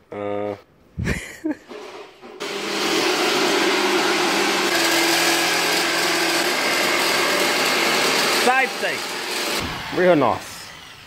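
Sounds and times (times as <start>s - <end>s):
electric power tool whirring: 1.7s - 11.0s.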